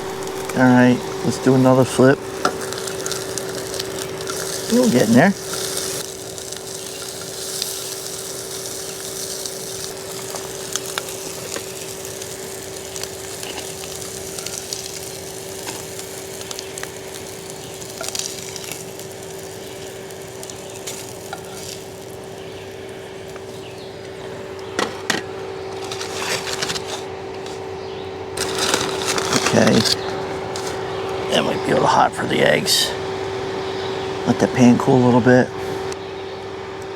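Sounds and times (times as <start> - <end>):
wood fire crackling and popping: 0.0 - 27.6, 28.4 - 31.8
fan humming: 0.0 - 36.9.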